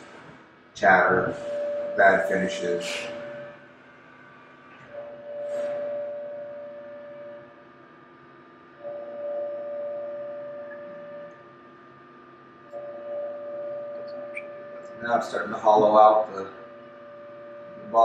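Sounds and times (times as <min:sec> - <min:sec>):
faint steady hum: 0:00.0 - 0:18.0
steady pitched whine: 0:00.0 - 0:18.0.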